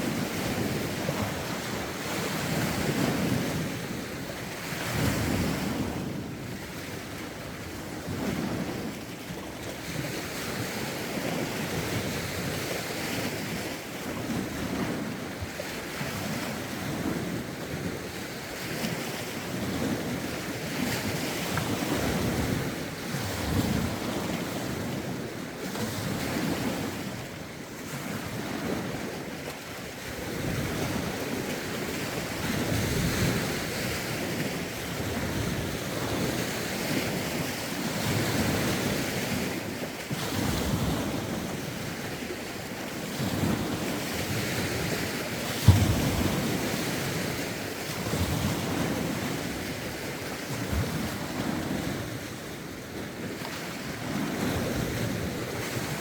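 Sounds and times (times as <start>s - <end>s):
lake waves surging: 0.0s - 56.0s
wind buffeting microphone: 0.0s - 56.0s.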